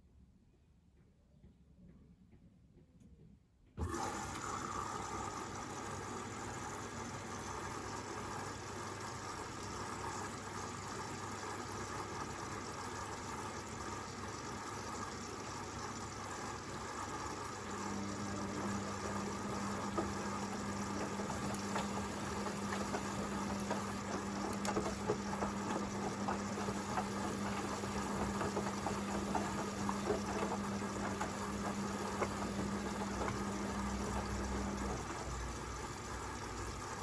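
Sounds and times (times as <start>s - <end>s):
washing machine motor hum: 3.8s - 37.0s.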